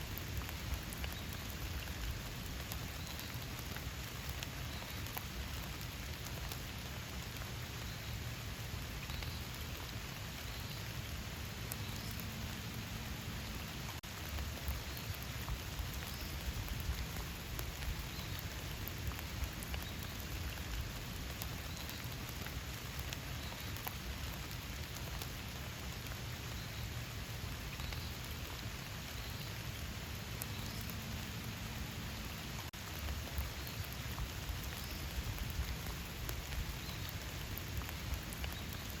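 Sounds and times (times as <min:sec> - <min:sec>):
rain falling in a forest: 0:00.0 - 0:39.0
raindrops ticking: 0:00.0 - 0:39.0.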